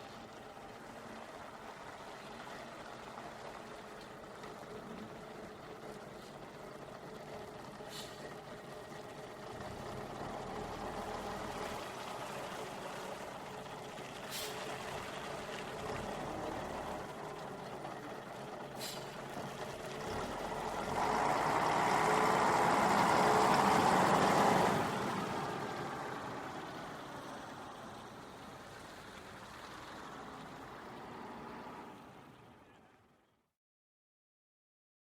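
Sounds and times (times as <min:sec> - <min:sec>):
bus engine running: 0:00.0 - 0:32.7.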